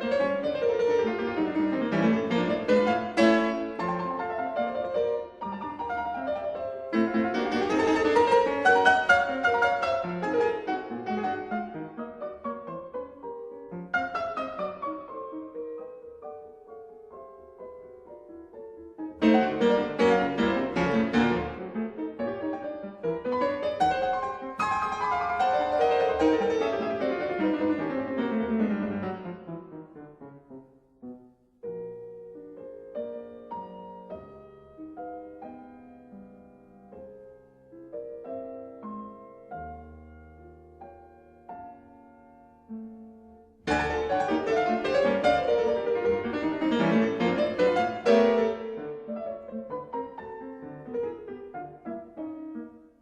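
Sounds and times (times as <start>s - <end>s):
solo piano playing: 0.0s - 53.0s.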